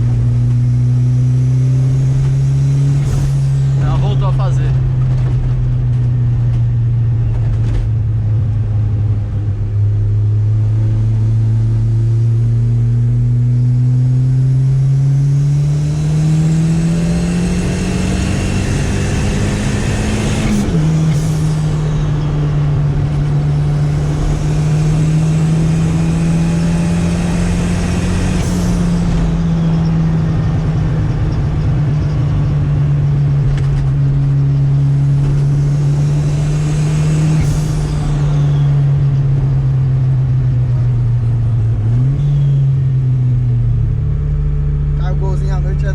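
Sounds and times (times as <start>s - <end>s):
turbocharged car engine revving: 0.0s - 45.9s.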